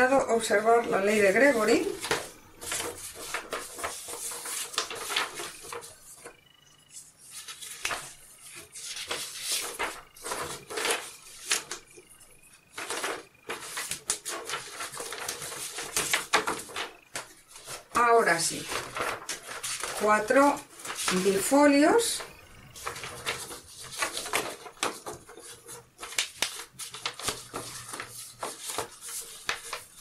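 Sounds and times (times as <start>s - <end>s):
paper rustling and crackling: 0.0s - 30.0s.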